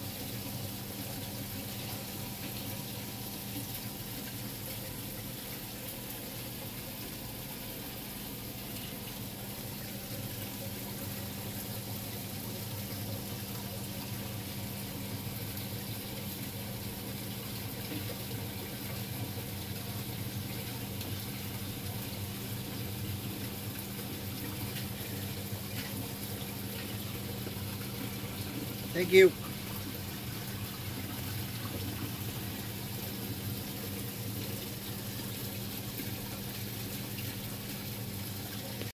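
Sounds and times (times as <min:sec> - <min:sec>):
low steady hum: 0:00.0 - 0:38.9
water running and splashing: 0:00.0 - 0:38.9.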